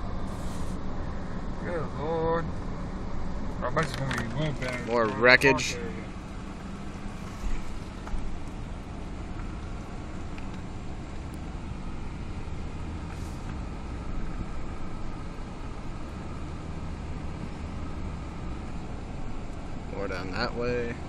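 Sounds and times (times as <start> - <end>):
pickup truck driving slowly: 0.0 - 21.0.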